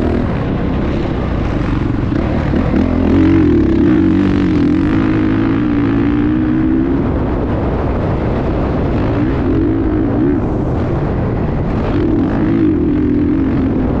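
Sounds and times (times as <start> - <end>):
dense rushing noise: 0.0 - 14.0
dirt bike engine running: 0.0 - 14.0.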